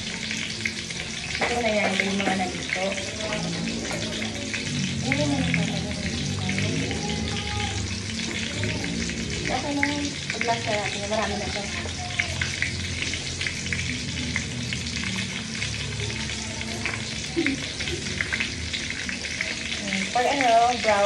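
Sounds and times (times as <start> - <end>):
meat deep-frying in oil: 0.0 - 21.0.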